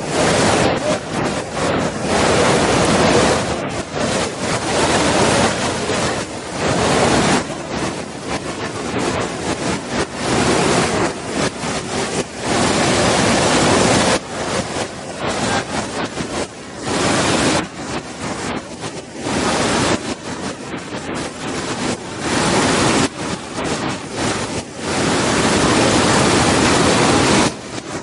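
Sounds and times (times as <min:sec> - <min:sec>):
wind gusts on microphone: 0:00.0 - 0:28.0.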